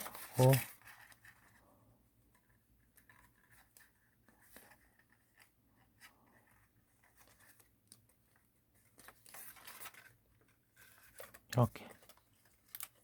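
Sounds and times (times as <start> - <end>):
paper rustling and crinkling: 0.0 - 1.7, 2.3 - 13.0.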